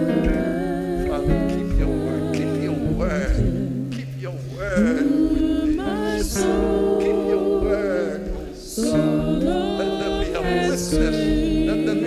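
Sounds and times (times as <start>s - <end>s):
gospel worship singing: 0.0s - 12.0s.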